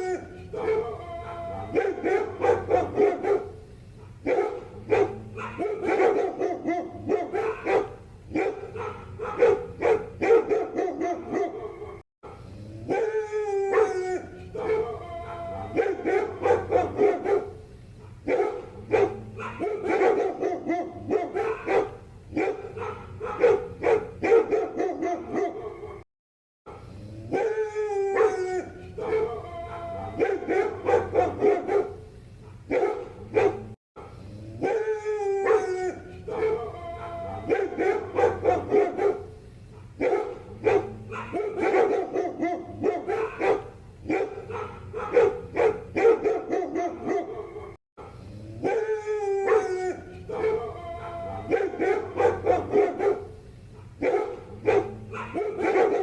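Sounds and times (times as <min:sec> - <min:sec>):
dog barking: 0:00.0 - 0:26.0, 0:26.7 - 0:27.6, 0:28.2 - 0:28.4, 0:29.0 - 0:56.0.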